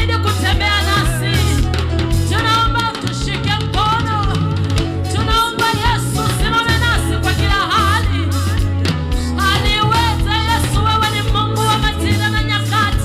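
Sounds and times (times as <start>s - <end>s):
band playing: 0.0s - 13.0s
bass notes: 0.0s - 13.0s.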